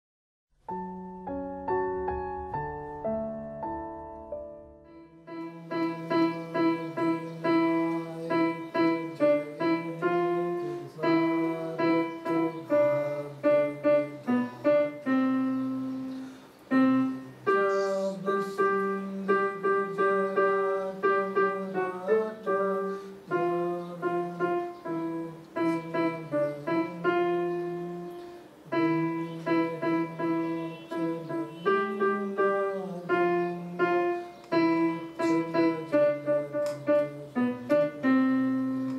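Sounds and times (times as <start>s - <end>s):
electronic keyboard slow melody: 0.6s - 38.9s.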